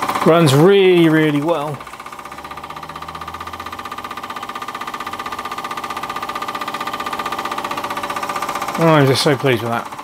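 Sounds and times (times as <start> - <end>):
steam engine exhaust chuffs: 0.0 - 10.0.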